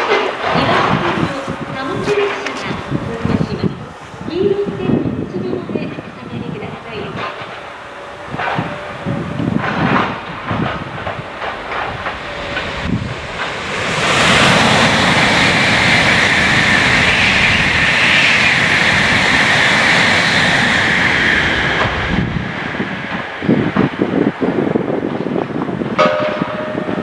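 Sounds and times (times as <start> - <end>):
train wheels clacking over rail joints: 0.0 - 17.2, 18.0 - 27.0
train rushing with high hiss: 0.0 - 27.0.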